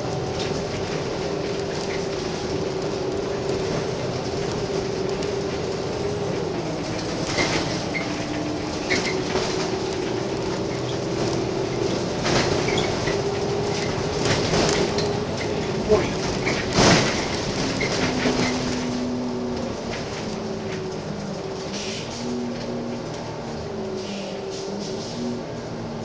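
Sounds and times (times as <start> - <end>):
bus body rattling: 0.0 - 26.0
bus engine whining: 0.0 - 26.0.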